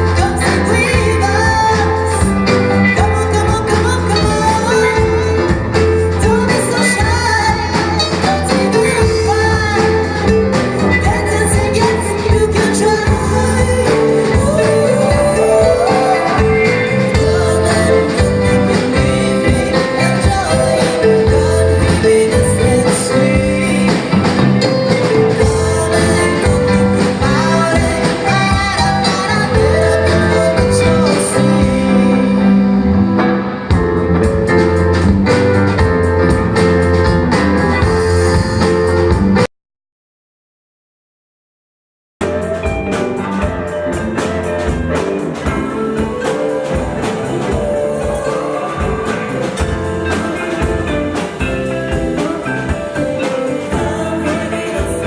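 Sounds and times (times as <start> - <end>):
rock band playing: 0.0 - 39.5, 42.2 - 55.0.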